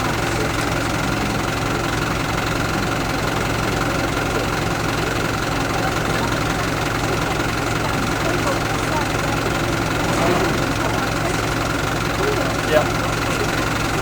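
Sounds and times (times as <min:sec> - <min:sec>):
crane engine idling: 0:00.0 - 0:14.0.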